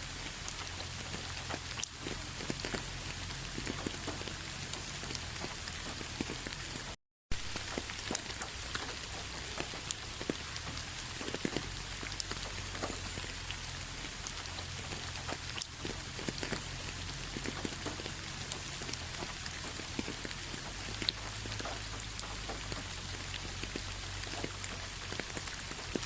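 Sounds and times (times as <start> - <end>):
rain hiss: 0.0 - 26.0
raindrops pattering: 0.0 - 26.0.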